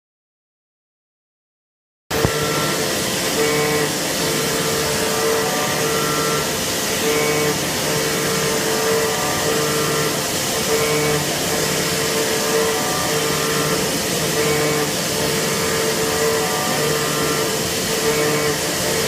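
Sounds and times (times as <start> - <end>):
cnc machine running: 2.1 - 19.0
higher machine tones: 2.1 - 19.0.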